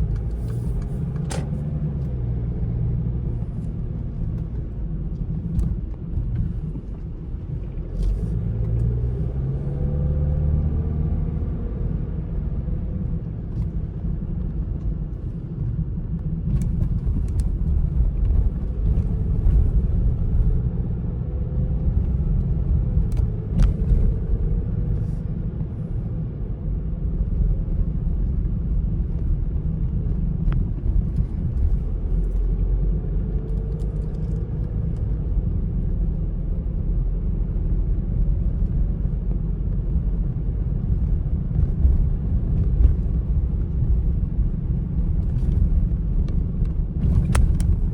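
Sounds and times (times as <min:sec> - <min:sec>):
car engine: 0:00.0 - 0:47.9
car road rumble: 0:00.0 - 0:47.9.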